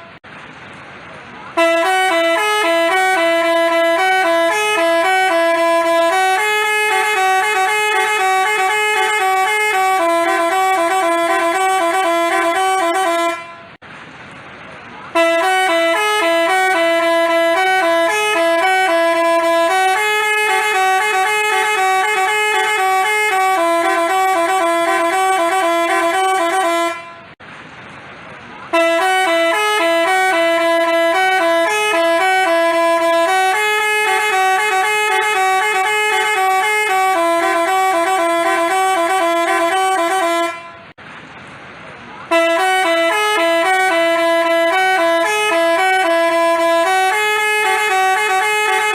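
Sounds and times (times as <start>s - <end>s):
multi-tone bus horn melody: 0.0s - 0.3s, 1.4s - 13.8s, 15.0s - 27.4s, 28.6s - 41.0s, 42.2s - 48.9s.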